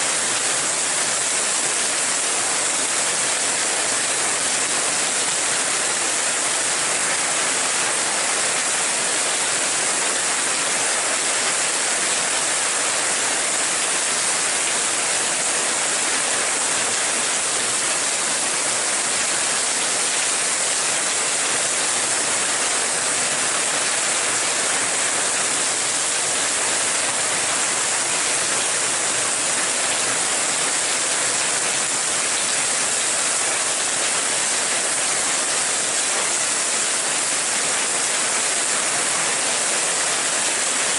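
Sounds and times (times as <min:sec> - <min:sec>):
rain falling steadily: 0:00.0 - 0:40.9.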